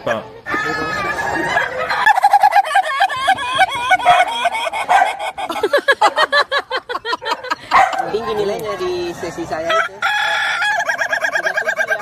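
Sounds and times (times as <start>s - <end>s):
chicken clucking: 0.0s - 12.0s.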